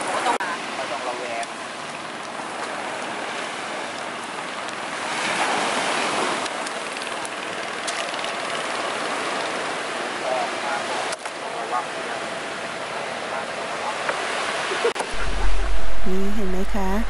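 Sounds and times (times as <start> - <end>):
surf washing onto beach: 0.0 - 16.0.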